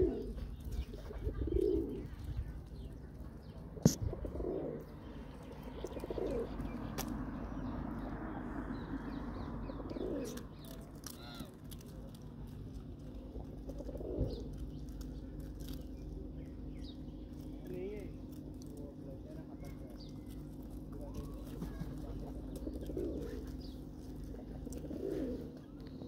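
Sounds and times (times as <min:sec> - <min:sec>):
pigeons cooing: 0:00.0 - 0:17.6, 0:19.2 - 0:26.0.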